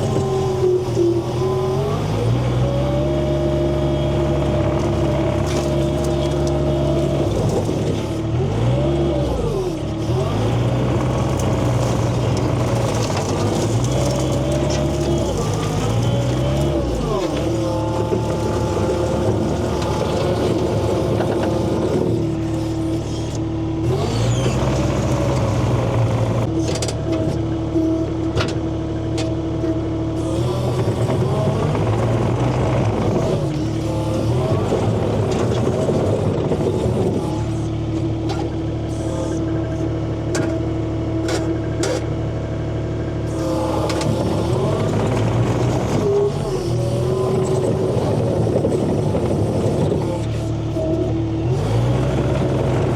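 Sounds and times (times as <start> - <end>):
engine whine: 0.0 - 52.9.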